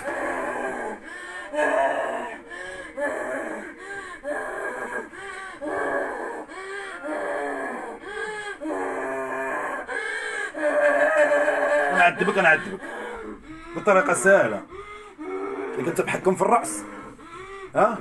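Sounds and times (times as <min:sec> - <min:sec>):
person moaning and gasping: 0:00.0 - 0:18.0.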